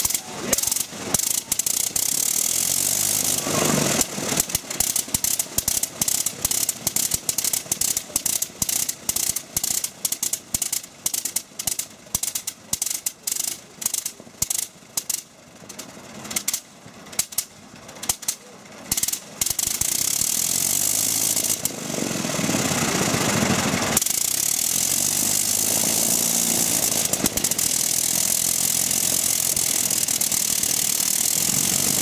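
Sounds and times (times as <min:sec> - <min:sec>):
rotary aircraft engine popping: 0:00.0 - 0:32.0.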